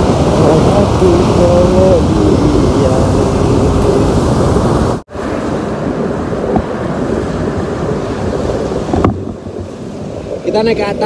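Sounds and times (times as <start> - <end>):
surf breaking on sand: 0.0 - 11.0
wind buffeting microphone: 0.0 - 11.0.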